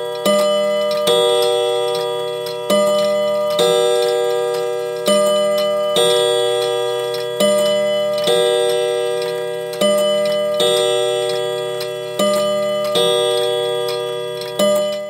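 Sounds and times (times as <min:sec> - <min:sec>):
clock chime on gong rods: 0:00.0 - 0:15.0.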